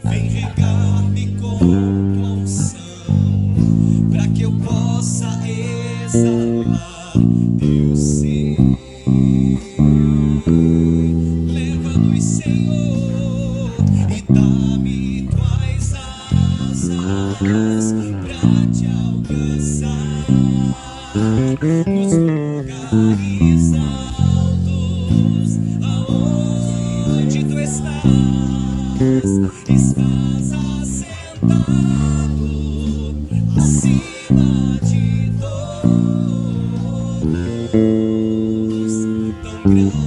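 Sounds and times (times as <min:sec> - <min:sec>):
electric bass low notes: 0:00.0 - 0:40.0.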